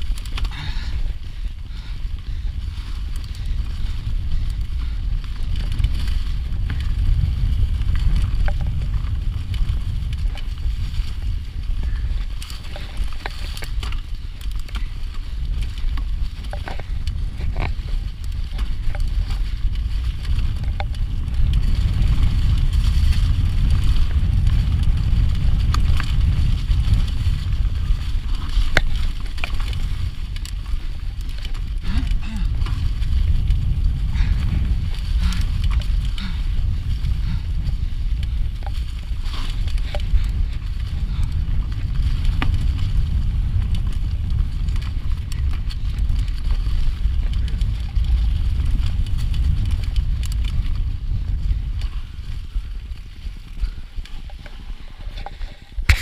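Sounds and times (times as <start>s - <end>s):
bike rattling over bumps: 0.0s - 56.0s
tyres crackling over dry leaves: 0.0s - 56.0s
wind buffeting microphone: 0.0s - 56.0s.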